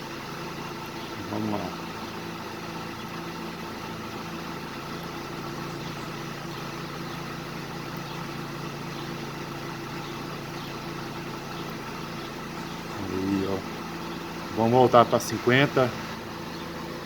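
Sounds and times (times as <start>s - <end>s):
air conditioning running: 0.0s - 17.0s
car engine idling: 0.0s - 17.0s.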